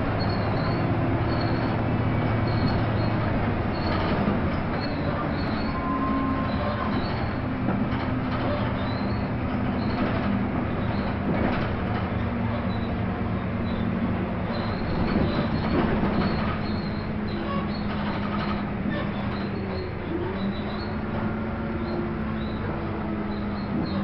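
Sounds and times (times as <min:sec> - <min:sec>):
bus body rattling: 0:00.0 - 0:24.0
bus engine running: 0:00.0 - 0:24.0
road noise: 0:00.0 - 0:24.0.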